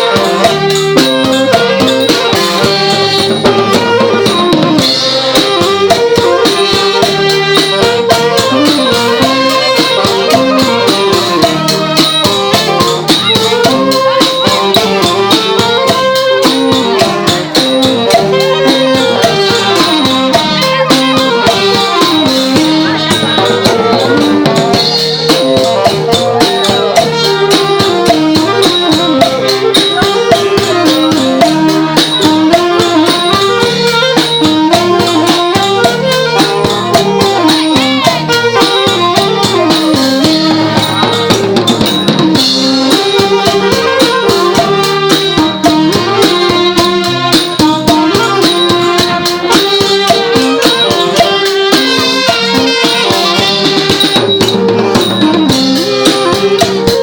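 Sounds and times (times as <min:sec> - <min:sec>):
brass band melody: 0:00.0 - 0:57.0
drum and cymbal beats: 0:00.0 - 0:57.0.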